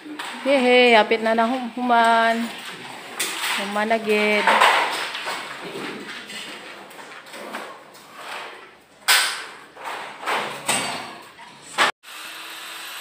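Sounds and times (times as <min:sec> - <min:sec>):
construction knocks and clatters: 0:00.0 - 0:11.9.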